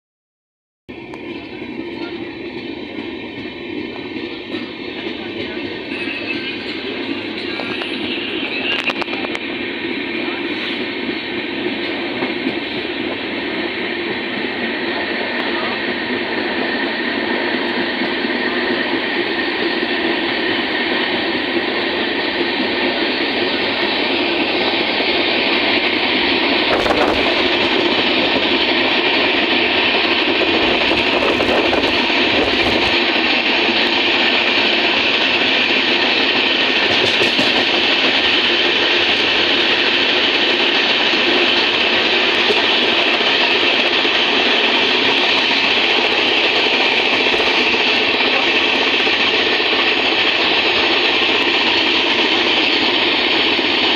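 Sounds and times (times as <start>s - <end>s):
train running along track: 0.9s - 53.9s.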